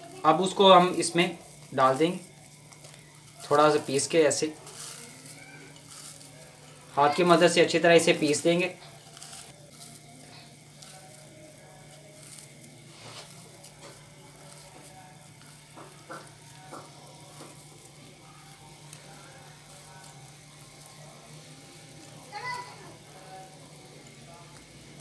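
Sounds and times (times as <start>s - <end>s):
gravy boiling with hiss and pops: 0.0s - 25.0s.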